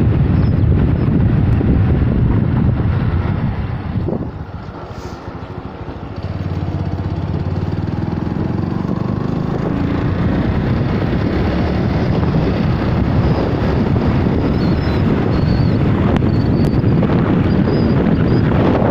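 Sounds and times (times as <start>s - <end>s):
vehicle engine and road noise: 0.0s - 18.9s.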